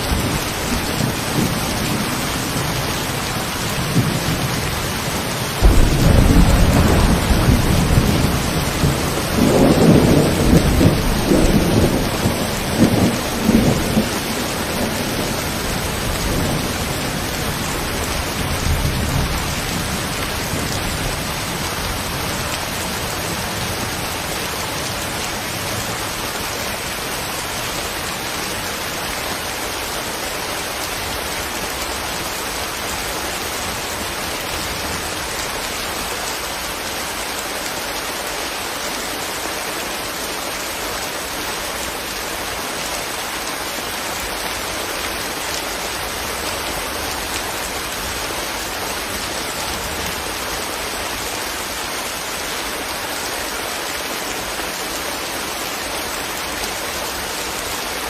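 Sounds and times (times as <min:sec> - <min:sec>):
raindrops pattering on leaves: 0:00.0 - 0:58.0.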